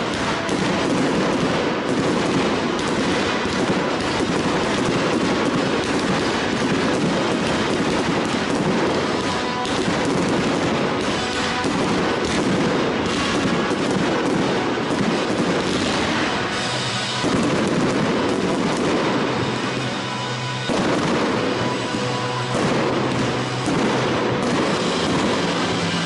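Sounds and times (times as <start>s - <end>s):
fireworks crackling and bangs: 0.0s - 26.0s.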